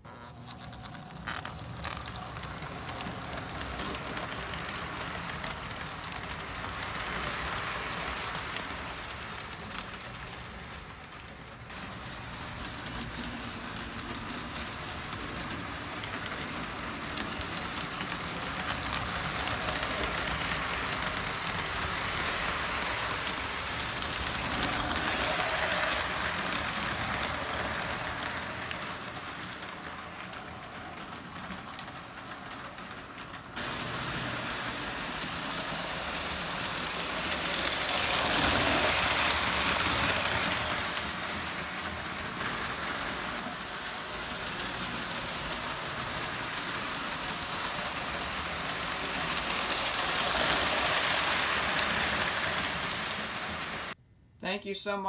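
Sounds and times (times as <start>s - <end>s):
model train motor humming: 0.0s - 53.9s
wheels rolling on rails: 0.0s - 54.0s.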